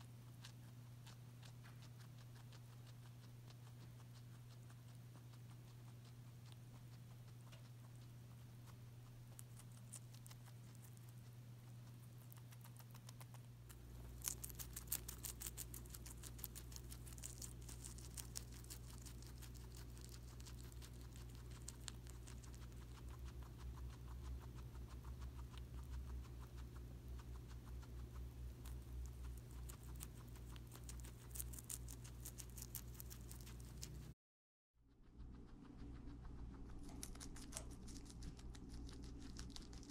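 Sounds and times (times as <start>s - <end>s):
guinea pig chewing: 0.0s - 34.2s, 34.9s - 39.9s.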